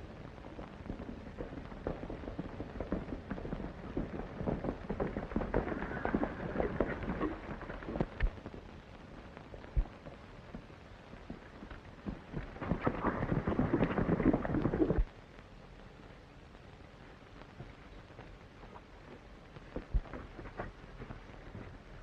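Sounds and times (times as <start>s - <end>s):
horse hooves on dirt: 0.0s - 15.5s, 16.5s - 22.0s
steady hiss: 0.0s - 22.0s.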